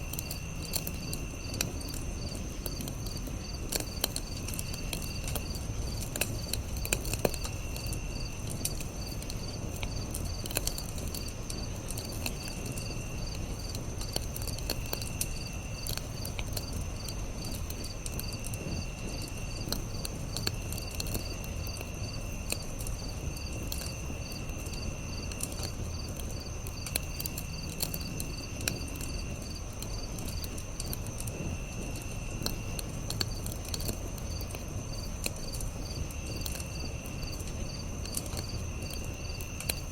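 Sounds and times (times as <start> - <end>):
campfire crackling and popping: 0.0 - 39.9
crickets chirping: 0.0 - 39.9
high insect trill: 0.0 - 39.9.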